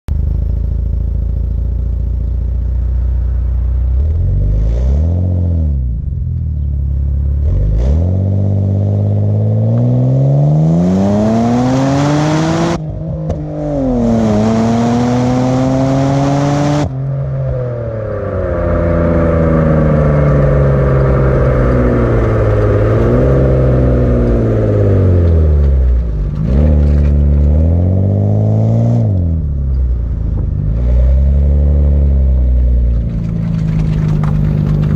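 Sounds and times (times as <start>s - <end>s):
car engine revving: 0.3s - 34.9s.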